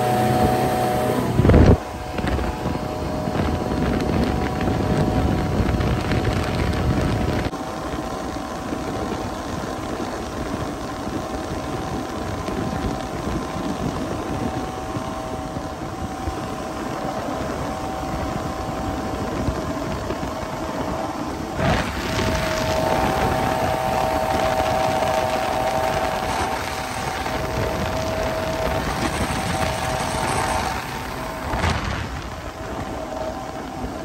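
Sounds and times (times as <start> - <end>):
outboard motor running: 0.0 - 34.0
wind buffeting microphone: 0.0 - 34.0.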